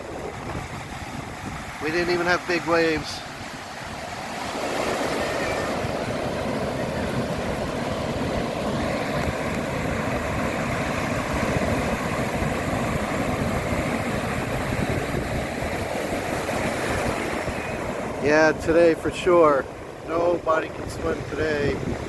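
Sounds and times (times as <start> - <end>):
surf breaking: 0.0 - 22.0
wind buffeting microphone: 0.0 - 22.0.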